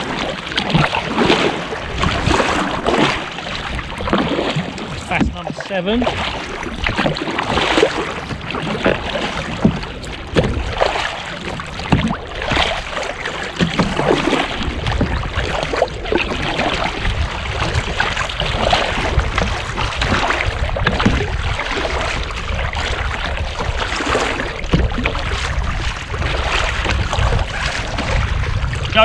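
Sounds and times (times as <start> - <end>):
paddle pulling through water: 0.0 - 29.0
water slapping plastic hull: 0.0 - 29.0.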